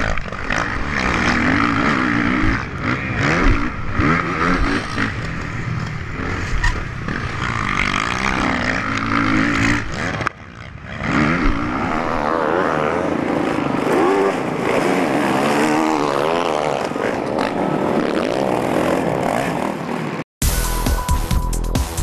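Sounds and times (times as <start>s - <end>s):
motocross motorcycles revving: 0.0s - 20.2s.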